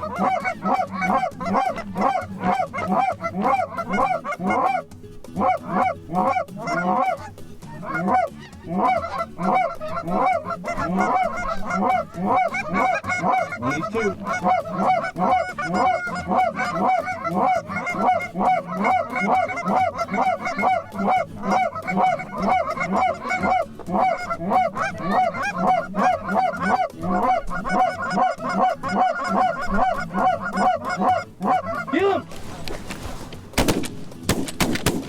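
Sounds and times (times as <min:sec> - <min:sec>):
geese honking: 0:00.0 - 0:33.3.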